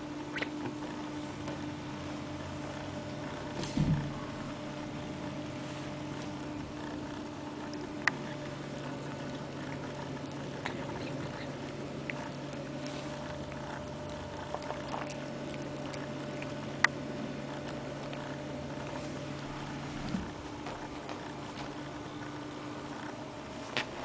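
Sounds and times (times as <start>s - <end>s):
cat purring: 0.7s - 23.3s.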